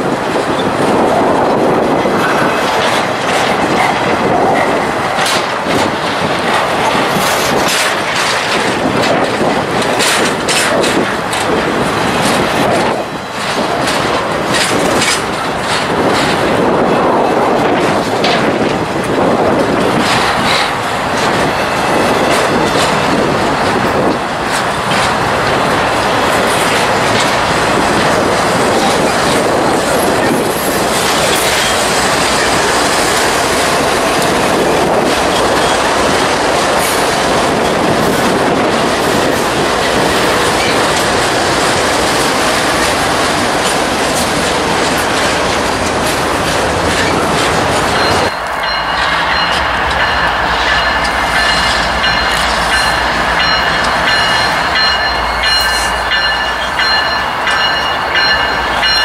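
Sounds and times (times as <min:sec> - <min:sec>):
diesel locomotives passing: 0:00.0 - 0:59.0
train wheels clattering over rail joints: 0:00.0 - 0:59.0.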